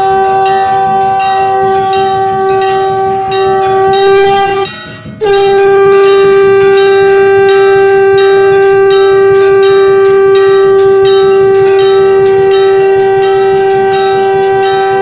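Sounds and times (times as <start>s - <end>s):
conch shell blown: 0.0s - 15.0s
temple bells struck: 0.0s - 15.0s.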